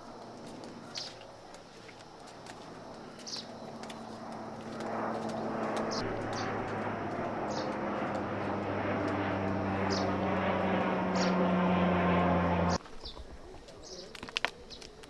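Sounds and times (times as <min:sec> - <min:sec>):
engine humming: 0:00.0 - 0:12.8.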